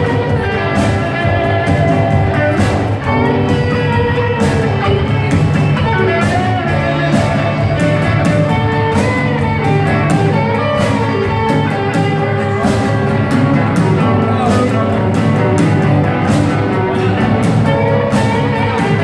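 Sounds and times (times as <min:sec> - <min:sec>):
rock band playing: 0:00.0 - 0:19.0
steady drum beat: 0:00.0 - 0:19.0.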